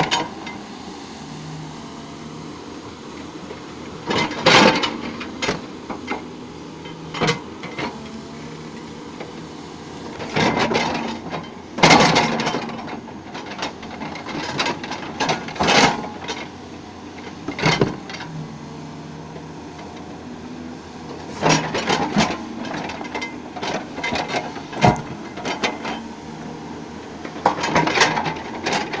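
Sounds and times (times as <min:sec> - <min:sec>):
excavator engine running: 0:00.0 - 0:29.0.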